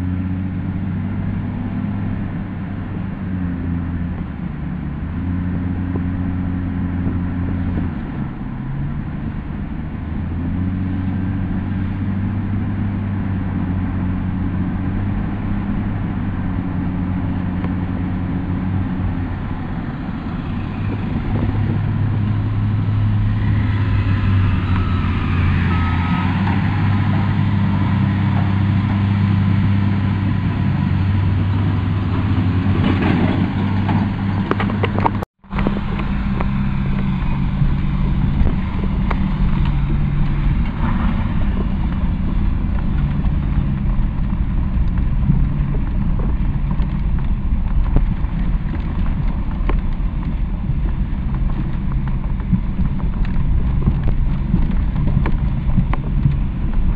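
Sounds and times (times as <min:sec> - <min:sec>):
tyres on gravel road: 0:00.0 - 0:56.9
vehicle engine running: 0:00.0 - 0:56.9.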